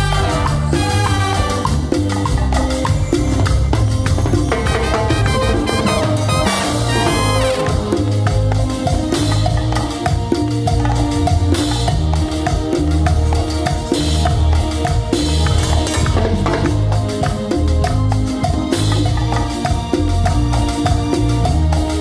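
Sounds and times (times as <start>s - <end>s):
pulsing bass line: 0.0s - 22.0s
salsa band playing: 0.0s - 22.0s
timbales and drums: 0.0s - 22.0s.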